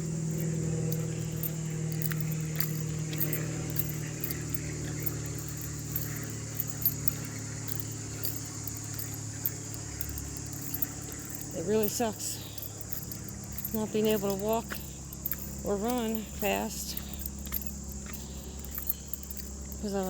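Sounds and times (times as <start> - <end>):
distant vehicle engine hum: 0.0 - 20.0
high insect drone: 0.0 - 20.0.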